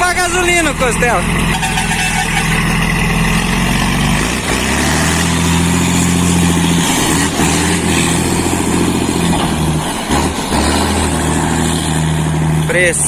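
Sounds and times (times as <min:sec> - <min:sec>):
truck diesel engine rumbling: 0:00.0 - 0:13.0.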